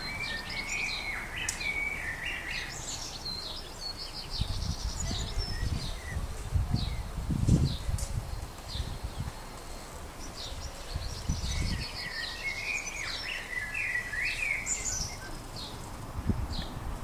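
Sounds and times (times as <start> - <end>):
garden birds singing: 0.0 - 17.0.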